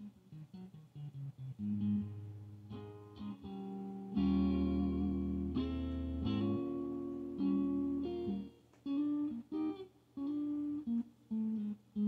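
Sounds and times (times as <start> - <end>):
clean electric guitar notes: 0.1 - 12.0.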